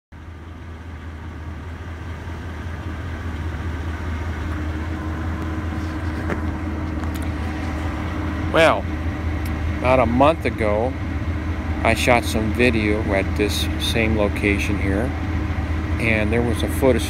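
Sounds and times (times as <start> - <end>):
vehicle engine and road rumble: 0.1 - 17.0.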